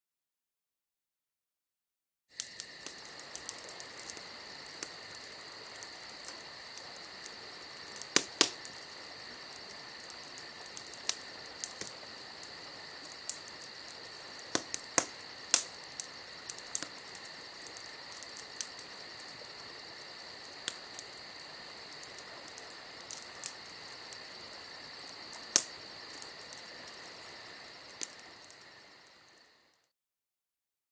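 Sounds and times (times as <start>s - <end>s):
campfire crackling and popping: 2.3s - 29.9s
crickets chirping: 2.3s - 29.9s.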